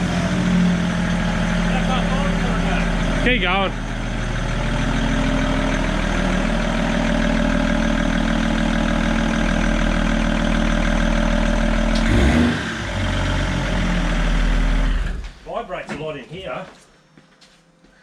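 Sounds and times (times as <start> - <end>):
diesel engine running: 0.0 - 15.4.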